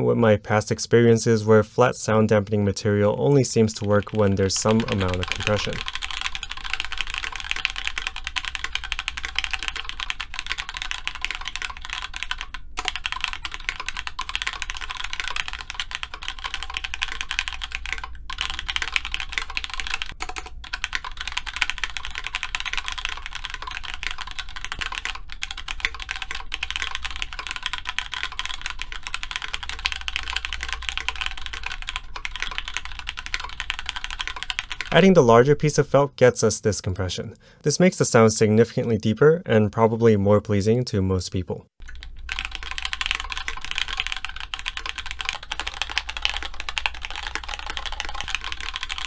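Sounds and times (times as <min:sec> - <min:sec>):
fast typing on mechanical keyboard: 0:02.3 - 0:36.0, 0:41.8 - 0:49.0.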